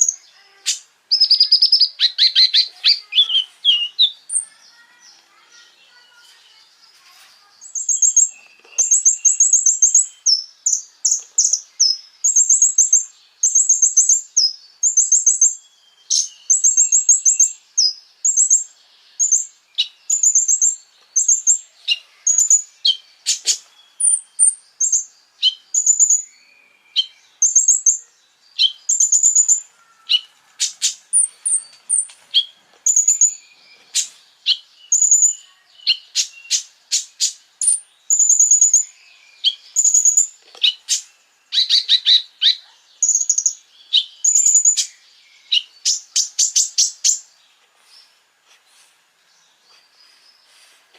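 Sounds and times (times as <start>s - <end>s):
songbird chirping and trilling: 0.0s - 50.9s.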